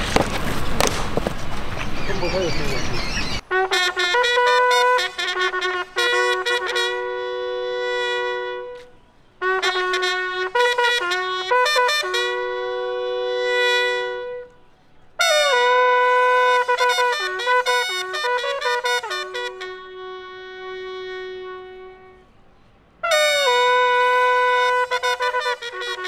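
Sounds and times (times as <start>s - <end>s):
bugle call: 2.1s - 22.4s, 23.0s - 26.0s.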